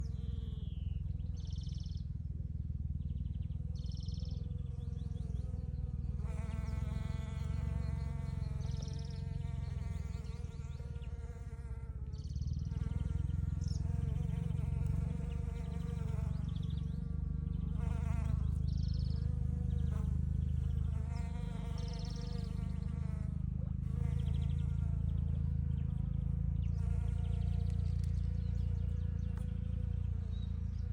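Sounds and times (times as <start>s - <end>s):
low steady rumble: 0.0s - 30.9s
songbird chirping: 3.0s - 23.2s, 24.0s - 30.9s
honeybees buzzing: 3.6s - 30.9s.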